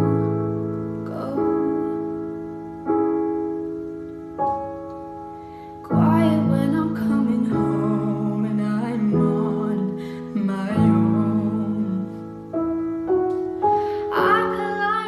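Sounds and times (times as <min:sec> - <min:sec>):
person singing melody: 0:00.0 - 0:03.1, 0:05.8 - 0:15.0
soft keyboard chords: 0:00.0 - 0:15.0.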